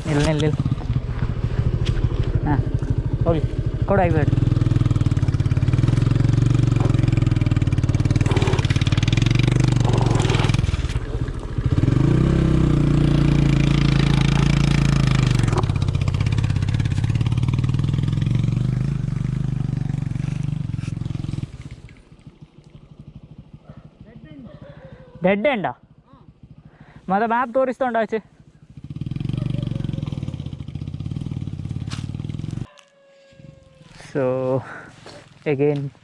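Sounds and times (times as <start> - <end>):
motorcycle engine running: 0.0 - 32.7.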